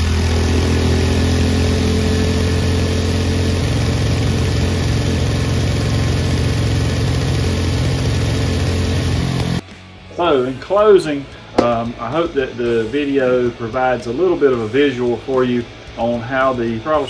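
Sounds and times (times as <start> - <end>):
small engine running steadily: 0.0 - 10.0, 10.6 - 17.0.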